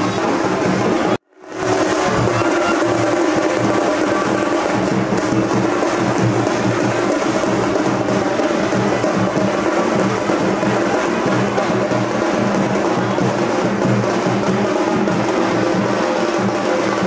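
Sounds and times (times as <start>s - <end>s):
loud drum and percussion music: 0.0s - 17.0s.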